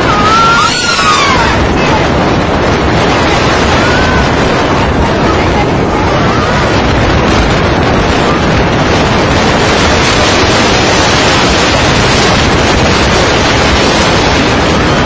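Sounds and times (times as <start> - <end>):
rough sea: 0.0 - 15.0
wind buffeting microphone: 0.0 - 15.0
wind rushing: 0.0 - 15.0.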